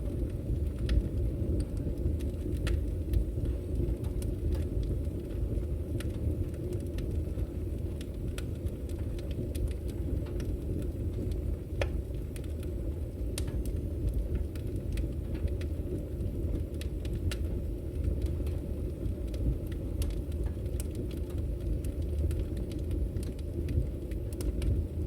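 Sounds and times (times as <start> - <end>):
fire crackling and popping: 0.0 - 25.0
fire rumbling: 0.0 - 25.0.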